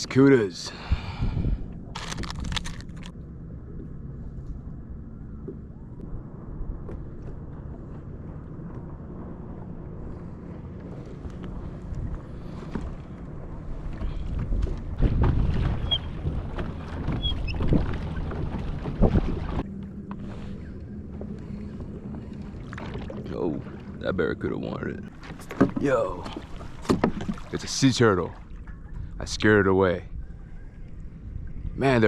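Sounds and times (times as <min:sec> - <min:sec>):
wind rumbling on microphone: 0:00.7 - 0:23.8, 0:28.4 - 0:32.0
water lapping against kayak hull: 0:05.3 - 0:32.0.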